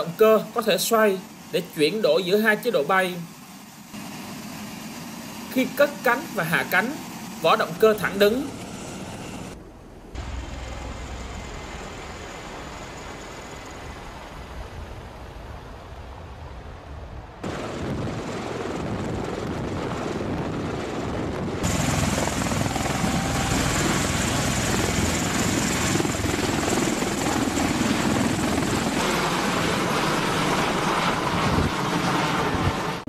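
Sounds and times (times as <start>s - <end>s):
tiltrotor aircraft rotor noise: 0.0s - 33.0s.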